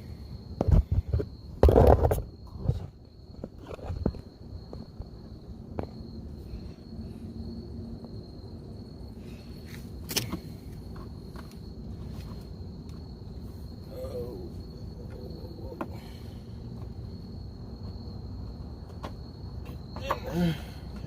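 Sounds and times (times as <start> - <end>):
high insect trill: 0.0 - 21.0
low outdoor rumble: 2.3 - 21.0.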